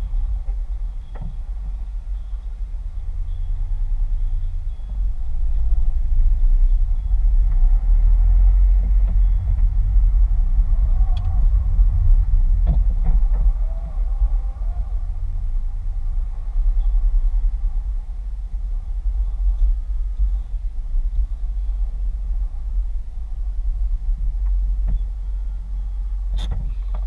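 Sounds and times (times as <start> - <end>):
engine and road rumble: 0.0 - 27.0.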